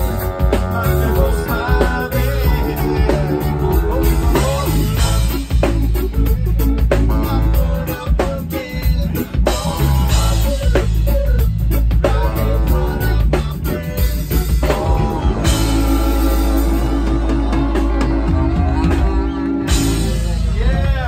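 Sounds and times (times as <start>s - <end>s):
live band playing: 0.0s - 21.0s
person singing into microphone: 0.0s - 21.0s.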